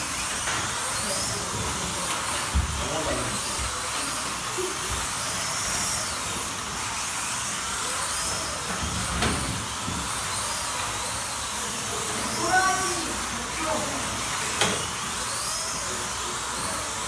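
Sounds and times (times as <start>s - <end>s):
slot car motor whines: 0.0s - 17.0s
slot car motors hissing: 0.0s - 17.0s.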